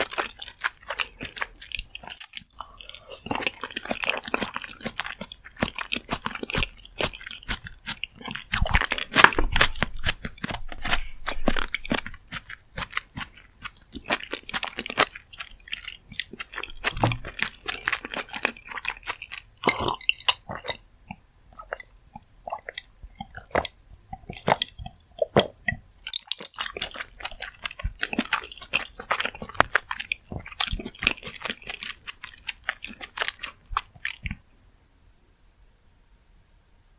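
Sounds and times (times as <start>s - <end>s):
wet chewing and crunching: 0.0s - 34.6s.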